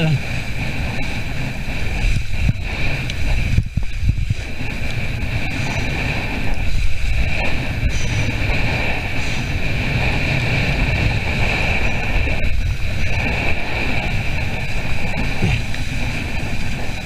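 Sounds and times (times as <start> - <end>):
water rushing along a hull: 0.0 - 17.0
wind buffeting microphone: 0.0 - 17.0.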